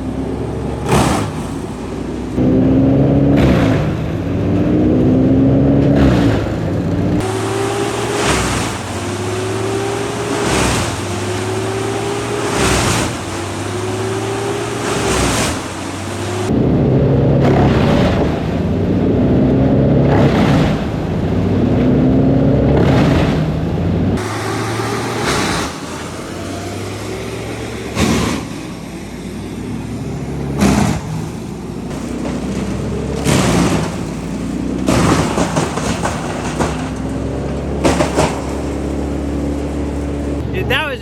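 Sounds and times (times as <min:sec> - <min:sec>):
wood cracking and splitting: 0:00.0 - 0:16.6, 0:24.2 - 0:40.5
wood chipper engine under load: 0:00.0 - 0:41.0.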